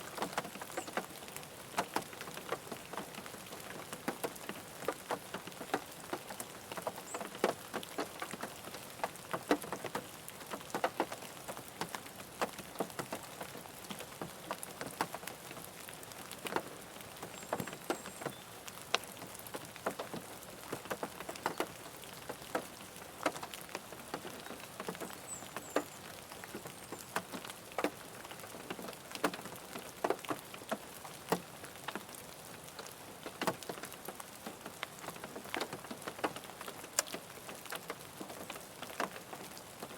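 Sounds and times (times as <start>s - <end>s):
rain on a car roof: 0.0s - 39.9s
heavy raindrops tapping: 0.1s - 39.9s.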